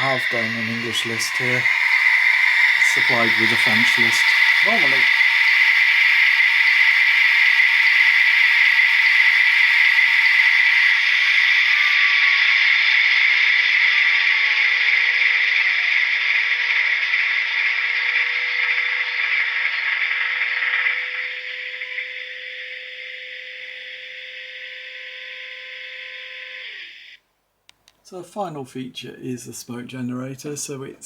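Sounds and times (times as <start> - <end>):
model locomotive sound through small speaker: 0.0 - 27.2
faint falling whine: 0.0 - 27.3.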